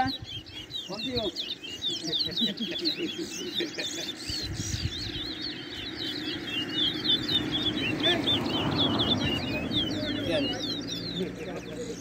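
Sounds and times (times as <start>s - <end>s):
finches twittering: 0.0s - 12.0s.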